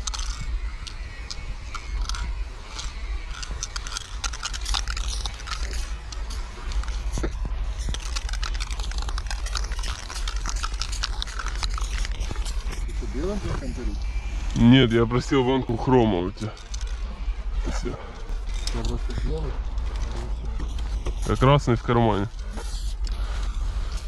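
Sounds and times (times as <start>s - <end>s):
crackly clicks: 0.0s - 12.9s, 16.4s - 24.0s
low rumble: 0.0s - 24.0s.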